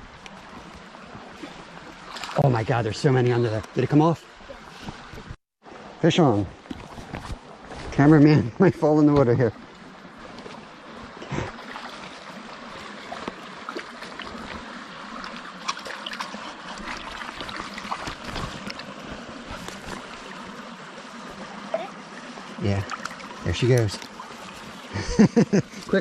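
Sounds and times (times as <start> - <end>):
creek water trickling: 0.0 - 26.0.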